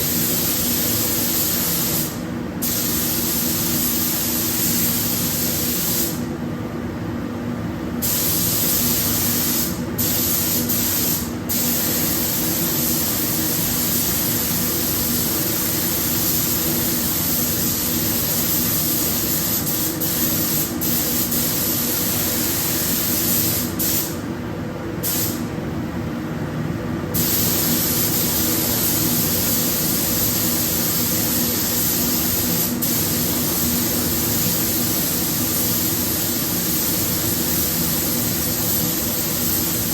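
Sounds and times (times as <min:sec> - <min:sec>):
paint spray gun hissing: 0:00.0 - 0:06.2, 0:08.0 - 0:24.2, 0:25.0 - 0:25.4, 0:27.2 - 0:39.9.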